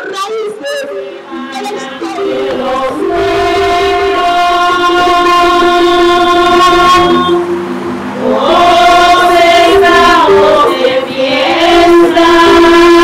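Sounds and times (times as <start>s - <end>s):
woman singing into microphone: 0.1s - 7.5s, 8.2s - 13.0s
steady held tone: 0.8s - 13.0s.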